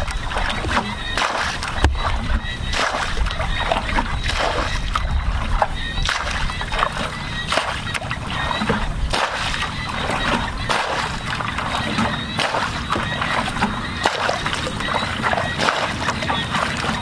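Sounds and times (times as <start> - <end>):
muddy water splashing: 0.0 - 17.0.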